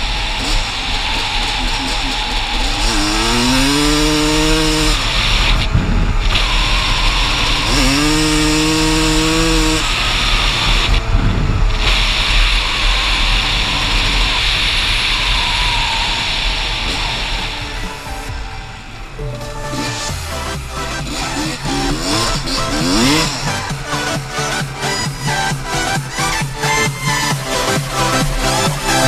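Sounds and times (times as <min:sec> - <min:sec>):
dirt bike engine revving: 0:00.0 - 0:29.0
steady rushing noise: 0:00.0 - 0:29.0.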